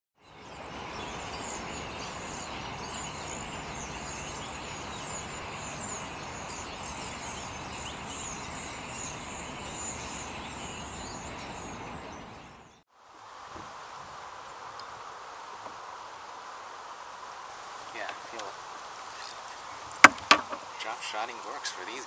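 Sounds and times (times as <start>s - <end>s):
flock of songbirds chirping: 0.2s - 22.0s.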